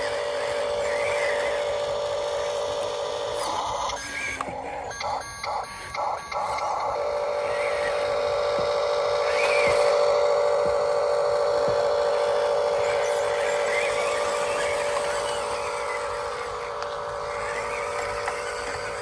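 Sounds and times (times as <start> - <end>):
toy electric motor whining: 0.0 - 19.0.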